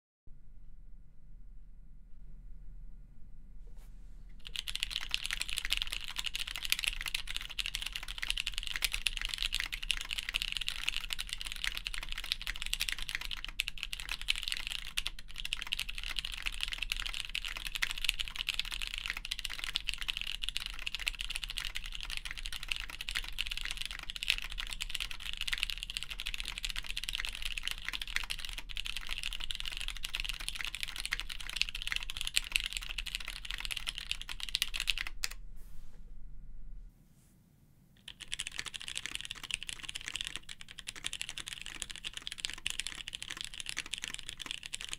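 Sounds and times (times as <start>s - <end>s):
mechanical keyboard typing: 4.4s - 35.4s, 38.0s - 44.9s.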